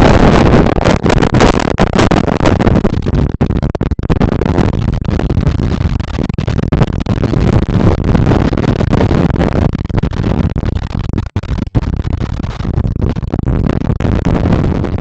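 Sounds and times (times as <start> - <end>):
loud rough rumbling: 0.0 - 15.0.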